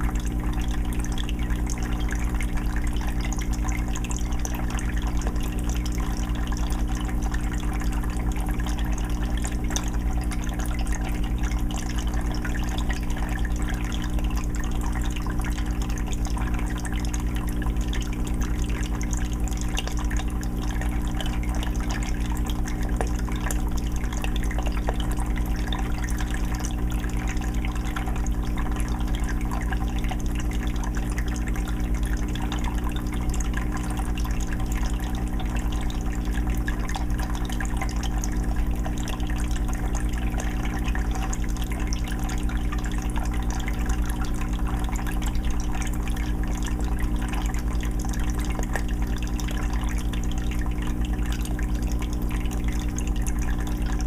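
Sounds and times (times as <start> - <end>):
low filter hum: 0.0 - 54.0
water trickling into fish tank: 0.0 - 54.0.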